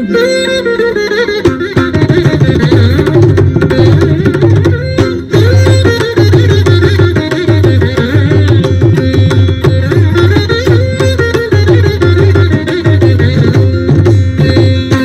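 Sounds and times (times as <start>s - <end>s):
plucked veena melody: 0.0s - 15.0s
hand drum strokes: 1.4s - 15.0s.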